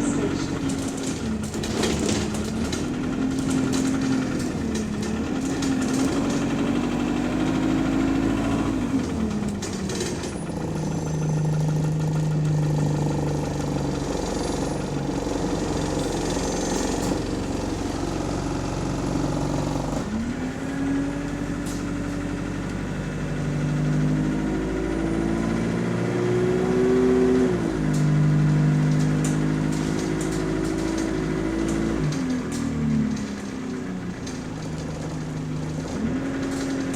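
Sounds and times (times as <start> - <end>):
bus body rattling: 0.0 - 25.1, 26.7 - 36.9
bus diesel engine: 0.0 - 36.9.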